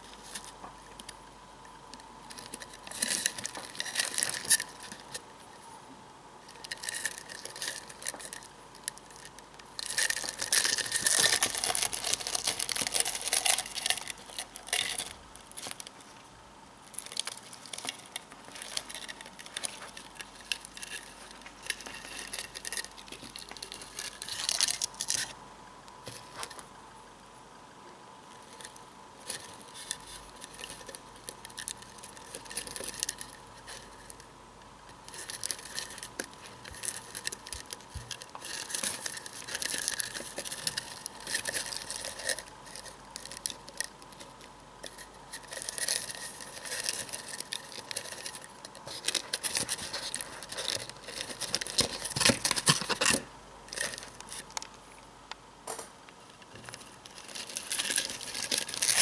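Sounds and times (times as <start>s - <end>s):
beetles scratching and clicking: 0.0s - 5.6s, 6.4s - 16.2s, 16.8s - 25.4s, 28.3s - 54.8s, 56.1s - 59.0s.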